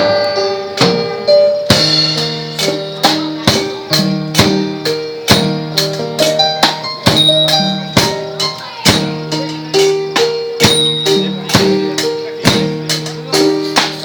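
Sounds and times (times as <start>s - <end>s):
percussion beat: 0.0s - 14.0s
wind instruments melody: 0.0s - 14.0s.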